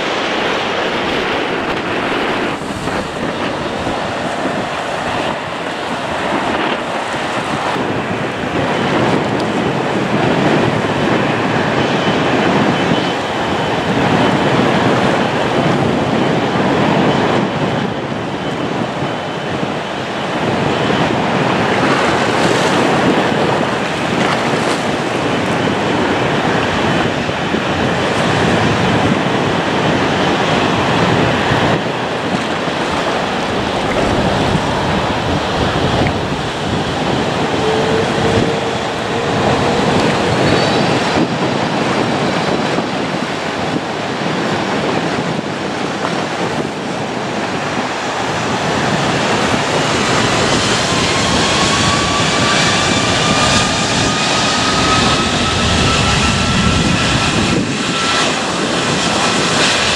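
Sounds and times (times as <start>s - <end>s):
jet engine rushing with whine: 0.0s - 59.9s.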